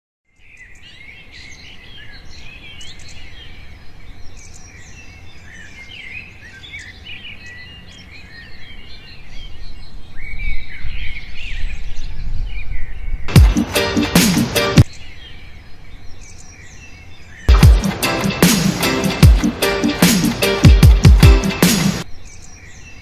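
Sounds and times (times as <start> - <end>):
small birds chirping and singing: 0.3 - 14.1, 14.8 - 23.0.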